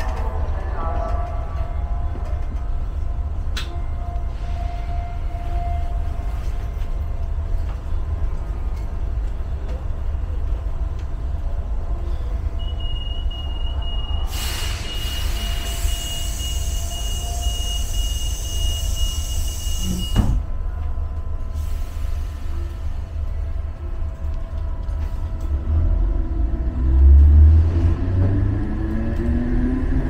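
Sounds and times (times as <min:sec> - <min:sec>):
train equipment humming: 0:00.0 - 0:27.8.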